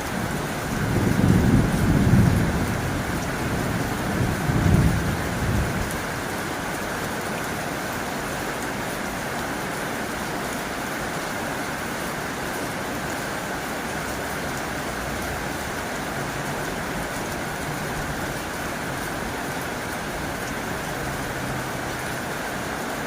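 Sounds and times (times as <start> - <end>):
heavy rain on a tin roof: 0.0 - 23.0.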